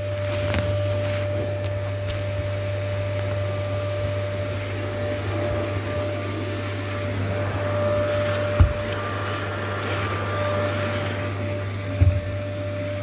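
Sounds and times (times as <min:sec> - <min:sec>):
vacuum cleaner motor running: 0:00.0 - 0:13.0.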